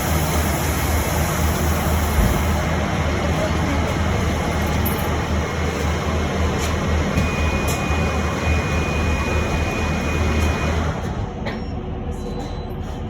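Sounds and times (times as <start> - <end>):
bus cabin rumble and ventilation hiss: 0.0 - 13.0.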